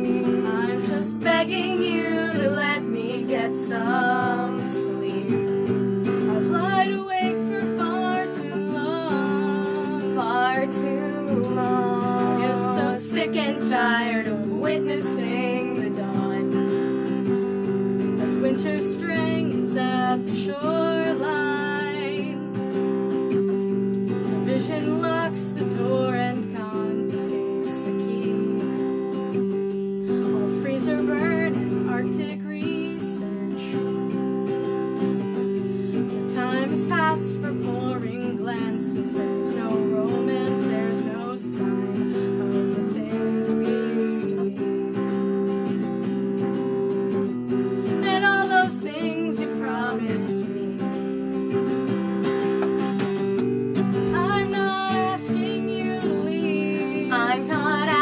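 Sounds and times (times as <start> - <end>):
women singing: 0.0 - 17.4, 18.0 - 22.6, 24.2 - 29.1, 30.1 - 34.3, 35.9 - 45.1, 47.8 - 51.1, 53.9 - 58.0.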